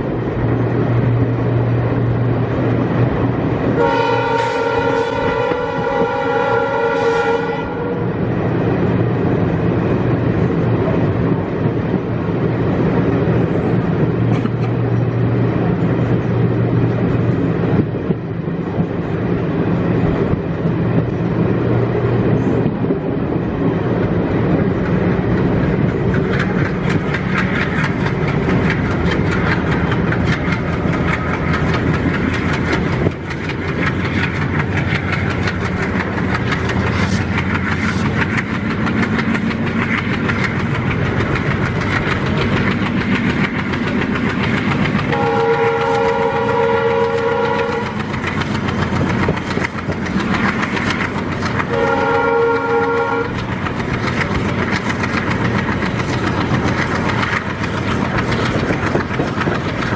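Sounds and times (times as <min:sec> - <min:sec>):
diesel locomotive drone: 0:00.0 - 0:59.9
train wheels rumbling on rail: 0:00.0 - 0:59.9
wheels clickety-clack over track: 0:00.0 - 0:59.9.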